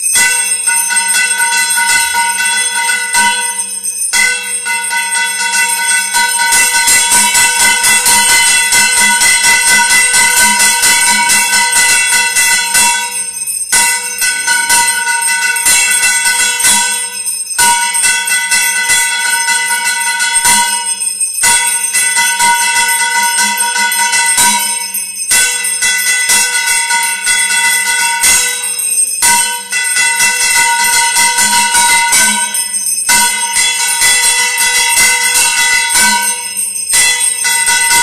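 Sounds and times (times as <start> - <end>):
bells ringing rapidly: 0.0 - 38.0.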